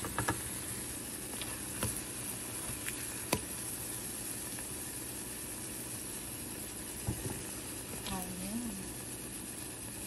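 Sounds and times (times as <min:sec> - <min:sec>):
plantain slices sizzling in oil: 0:00.0 - 0:10.0.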